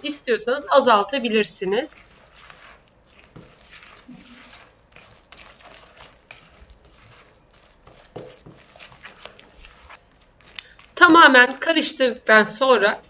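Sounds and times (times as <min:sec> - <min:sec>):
spatula scraping batter in glass bowl: 0:00.0 - 0:13.0.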